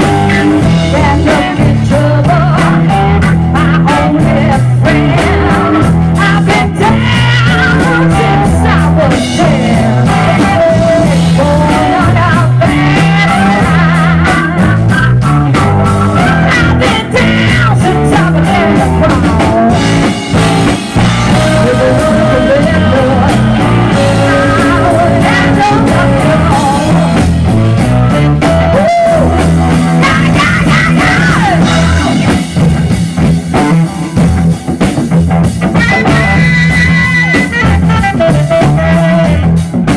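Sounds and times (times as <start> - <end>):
drums playing: 0.0 - 39.9
electric bass riff: 0.0 - 39.9
electric guitar lead: 0.0 - 39.9.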